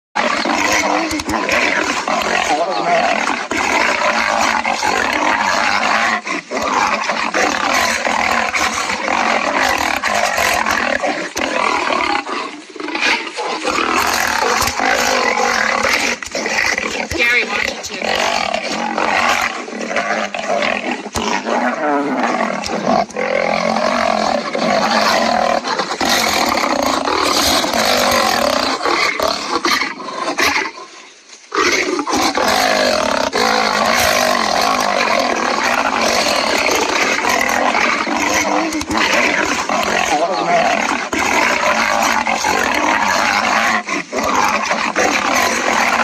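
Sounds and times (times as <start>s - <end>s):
lion and tiger roaring: 0.2s - 46.0s.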